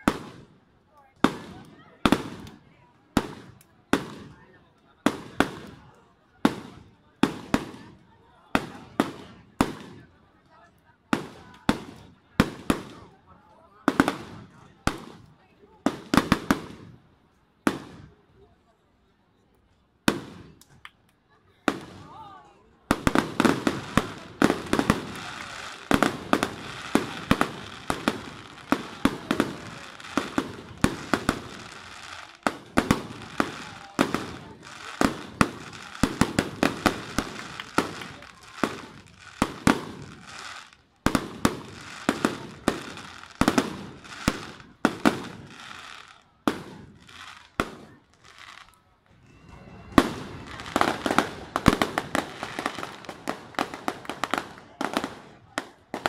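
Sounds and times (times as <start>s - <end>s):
fireworks bangs and crackles: 0.0s - 17.0s, 17.6s - 18.4s, 20.0s - 20.8s, 21.6s - 56.0s.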